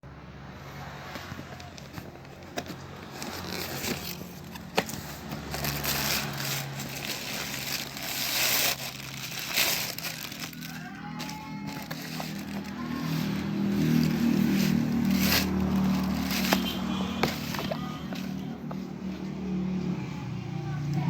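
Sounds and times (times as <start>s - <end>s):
packaging crinkling and rustling: 1.5s - 18.9s.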